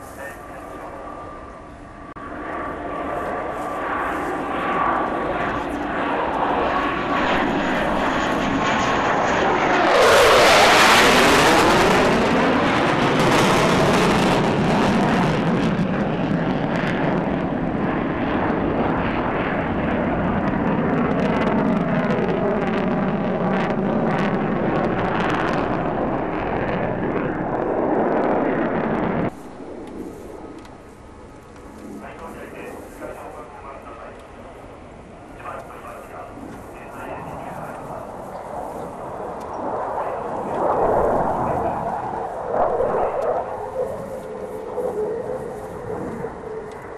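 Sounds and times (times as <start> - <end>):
fighter jet passing overhead: 0.0 - 46.9.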